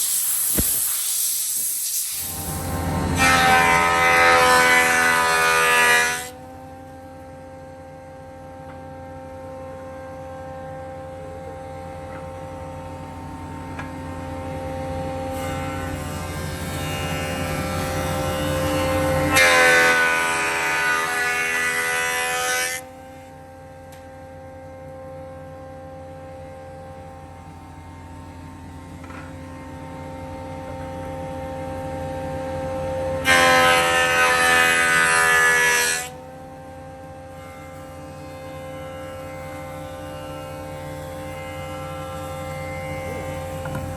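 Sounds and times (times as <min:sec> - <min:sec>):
cnc machine whining: 0:02.3 - 0:43.9.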